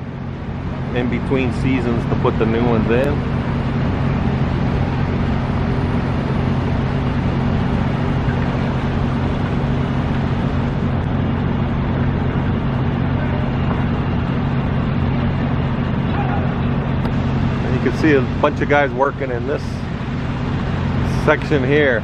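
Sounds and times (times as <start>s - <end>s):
drone propellers humming: 0.0s - 22.0s.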